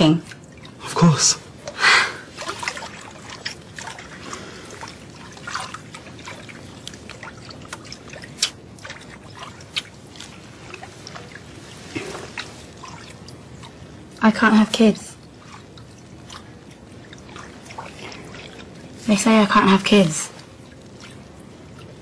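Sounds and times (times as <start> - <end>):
water trickling and dripping in bathtub: 0.0 - 22.0.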